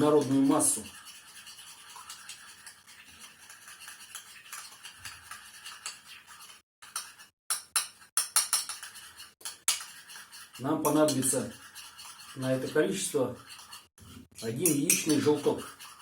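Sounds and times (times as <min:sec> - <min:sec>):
utensil beating egg in bowl: 0:00.0 - 0:16.0.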